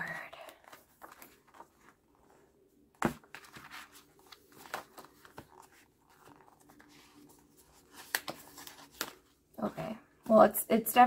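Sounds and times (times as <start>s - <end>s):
pages rustling: 0.4s - 9.4s.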